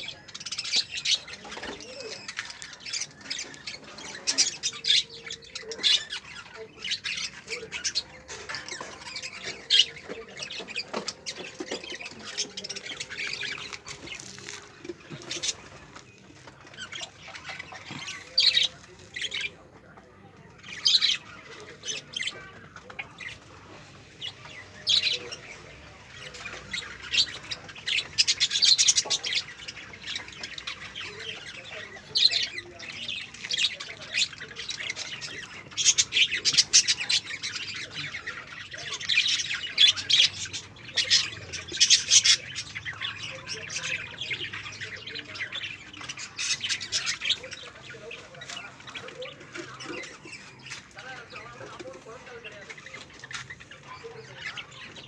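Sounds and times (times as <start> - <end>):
lovebirds squawking and chirping: 0.0 - 55.0.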